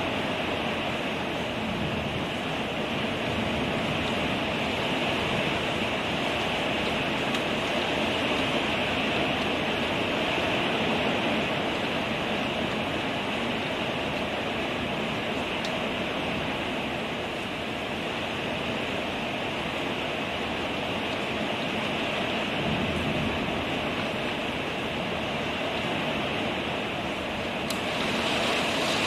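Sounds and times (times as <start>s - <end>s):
torrential rain pouring: 0.0s - 29.0s.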